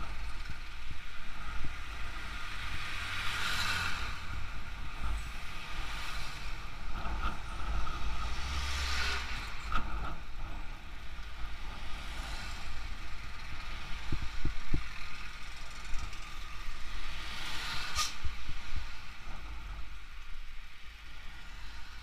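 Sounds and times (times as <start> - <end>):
wind noise: 0.0 - 20.8.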